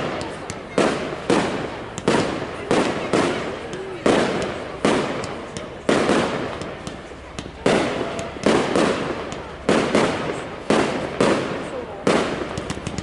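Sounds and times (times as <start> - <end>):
fireworks bangs: 0.0 - 13.0
fireworks crackles: 0.0 - 13.0.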